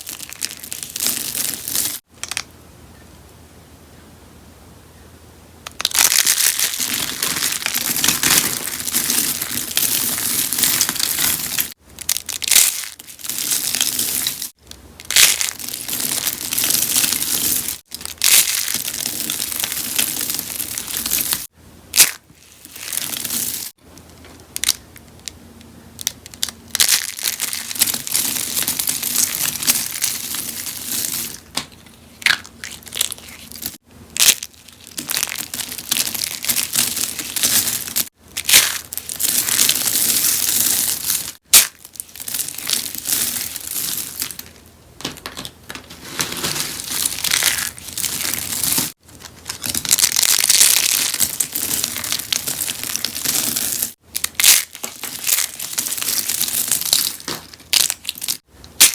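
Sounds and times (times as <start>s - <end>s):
soaps being crushed: 0.0s - 2.5s, 5.7s - 23.8s, 26.0s - 58.9s.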